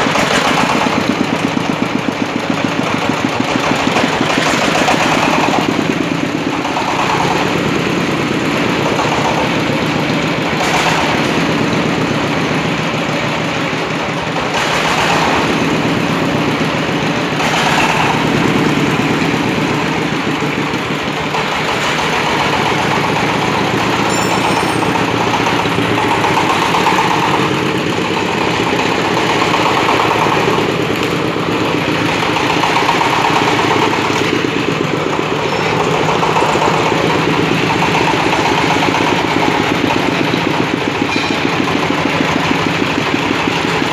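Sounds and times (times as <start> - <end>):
drilling rig engine running: 0.0 - 43.9.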